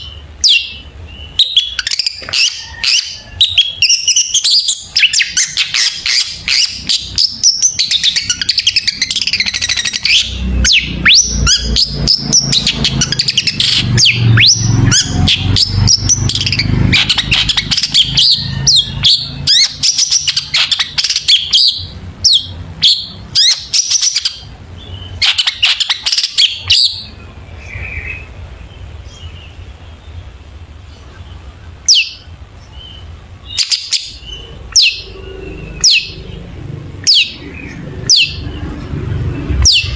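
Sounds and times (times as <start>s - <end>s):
bird singing chirps and whistles: 0.0s - 28.3s, 31.9s - 36.4s, 37.0s - 38.5s
sharp bird calls: 0.0s - 39.9s.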